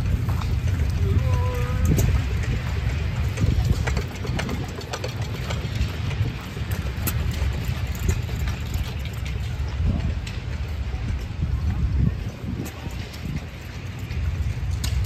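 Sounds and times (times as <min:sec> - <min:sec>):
gas engines chugging: 0:00.0 - 0:15.0.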